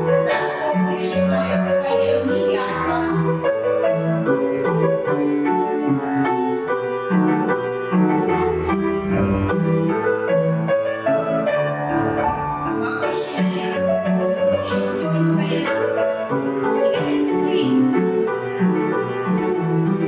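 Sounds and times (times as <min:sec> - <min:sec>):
piano music with bass beat: 0:00.0 - 0:20.0.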